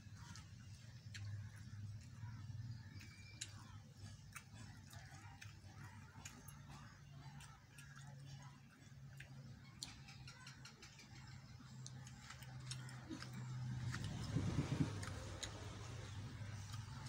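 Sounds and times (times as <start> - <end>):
low steady hum: 0.0 - 17.0
man chewing food: 0.0 - 17.0.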